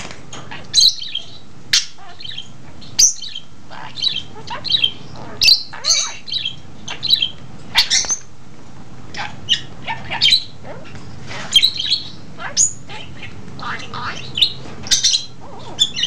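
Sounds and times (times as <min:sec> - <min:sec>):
budgerigar chirping and squawking: 0:00.5 - 0:08.3, 0:09.2 - 0:16.0.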